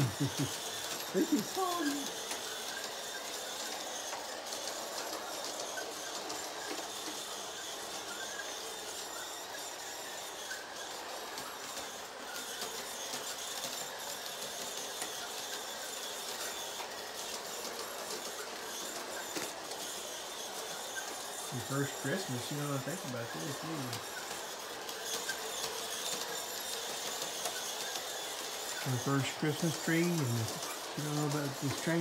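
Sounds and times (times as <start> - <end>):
toy train motor and wheels: 0.0 - 32.0.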